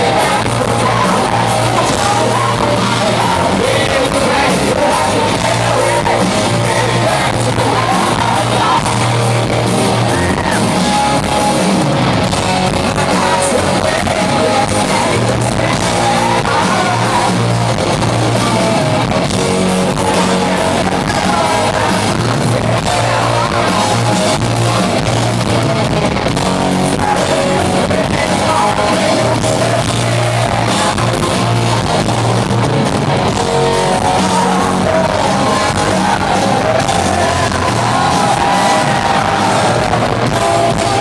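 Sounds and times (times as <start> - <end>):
person singing: 0.0 - 11.6, 12.6 - 25.5, 26.3 - 32.3, 33.3 - 41.0
live rock band playing: 0.0 - 41.0.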